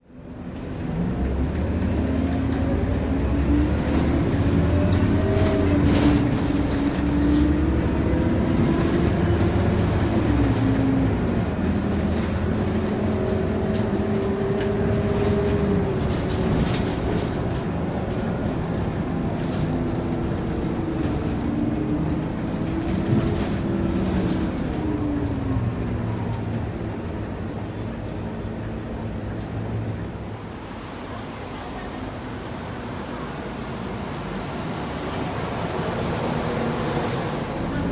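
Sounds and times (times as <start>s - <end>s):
road and body rumble: 0.0s - 37.9s
bus diesel engine running: 0.1s - 37.9s.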